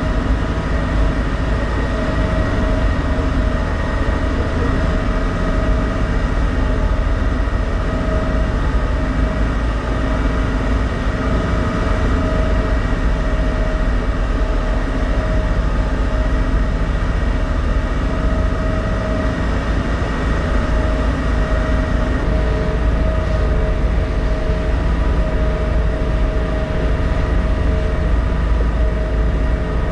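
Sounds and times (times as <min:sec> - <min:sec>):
constant hum tones: 0:00.0 - 0:29.9
ship engines rumbling: 0:00.0 - 0:29.9.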